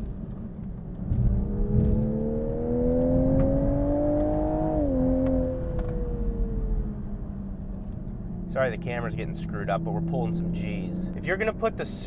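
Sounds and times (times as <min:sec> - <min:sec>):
car engine accelerating: 0:00.0 - 0:12.0
road noise rumble: 0:00.0 - 0:12.0.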